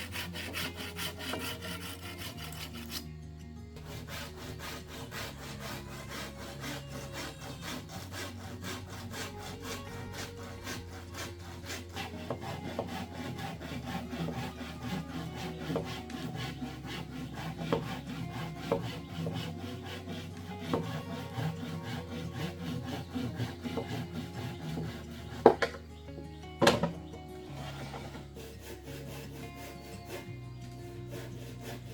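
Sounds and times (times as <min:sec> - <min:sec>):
hand sawing through wood: 0:00.0 - 0:03.1, 0:03.8 - 0:31.9.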